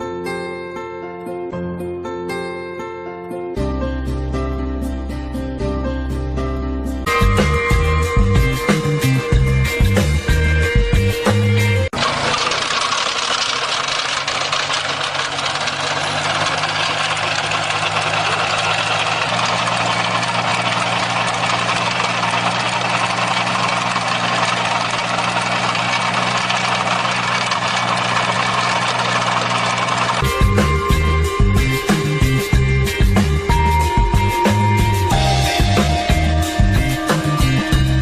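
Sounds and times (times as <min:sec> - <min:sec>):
engine running with rattle: 0:07.1 - 0:38.0.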